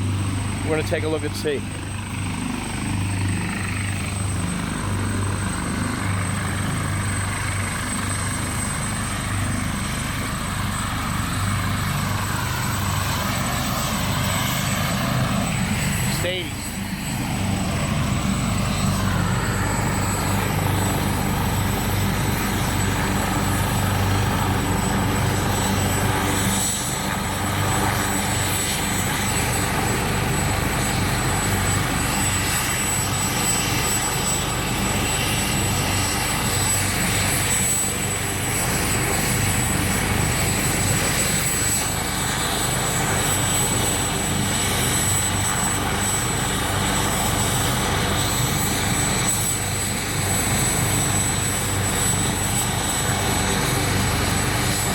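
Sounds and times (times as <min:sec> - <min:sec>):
helicopter rotor beat: 0:00.0 - 0:54.9
high turbine whine: 0:00.0 - 0:54.9.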